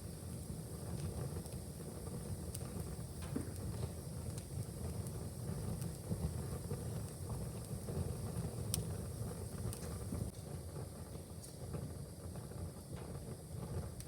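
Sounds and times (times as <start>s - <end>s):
fire low rumble: 0.0s - 14.0s
wood fire crackling and popping: 0.0s - 14.0s.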